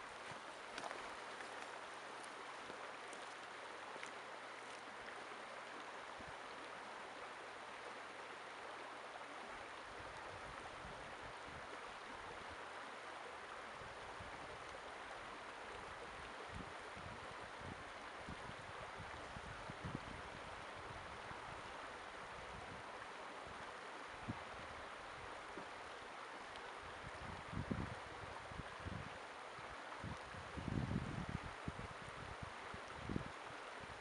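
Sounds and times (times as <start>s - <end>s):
river running over rocks: 0.0s - 34.0s.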